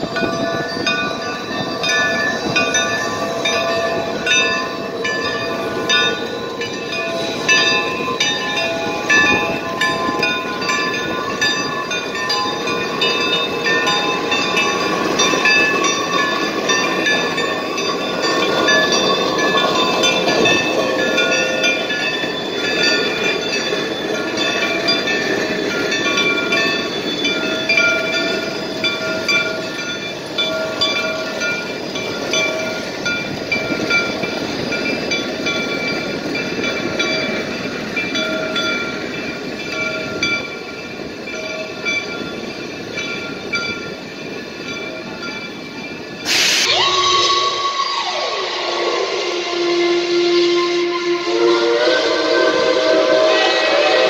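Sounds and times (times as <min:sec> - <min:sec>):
steam locomotive running: 0:00.0 - 0:54.0.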